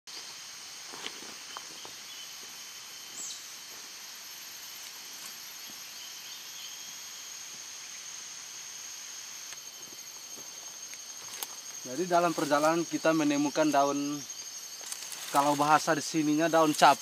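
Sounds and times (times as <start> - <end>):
insects droning: 0.1 - 17.0.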